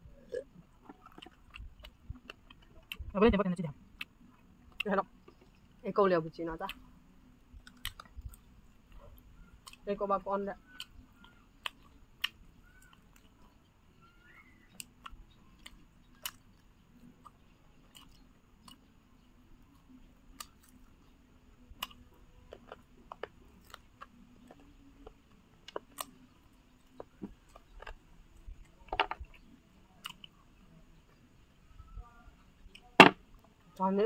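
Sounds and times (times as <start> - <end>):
crunching and chewing fried food: 0.1 - 5.8, 6.5 - 31.7.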